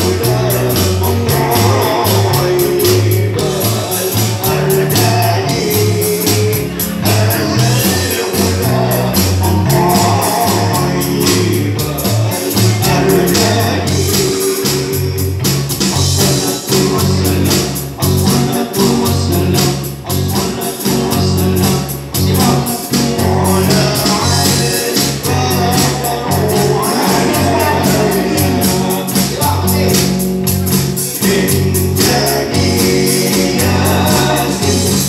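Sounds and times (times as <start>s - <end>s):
person singing: 0.0s - 30.2s, 31.0s - 35.0s
bass line: 0.0s - 35.0s
electric guitars: 0.0s - 35.0s
electronic drum beat: 0.0s - 35.0s.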